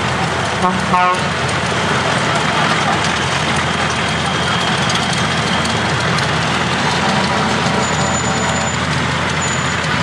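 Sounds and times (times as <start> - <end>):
truck diesel engine passing: 0.0 - 10.0.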